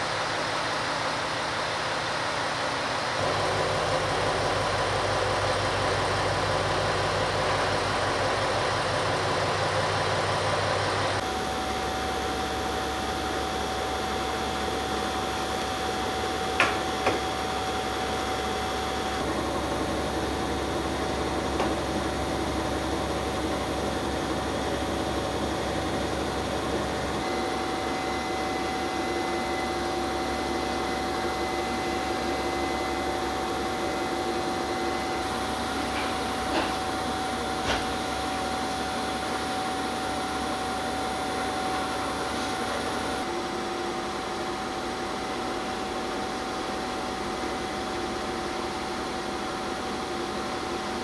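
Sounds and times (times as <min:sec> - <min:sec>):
mechanical hum: 0:00.0 - 0:51.0.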